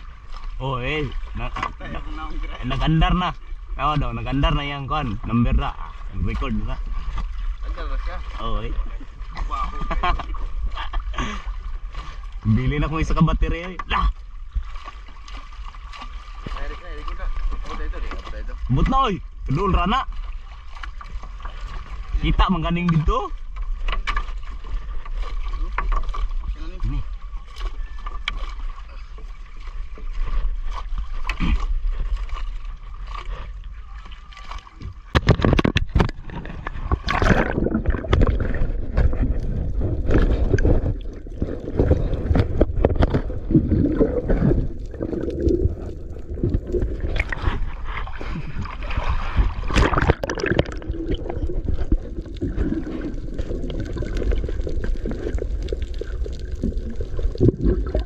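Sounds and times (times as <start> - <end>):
water splashing around boat: 0.0 - 58.0.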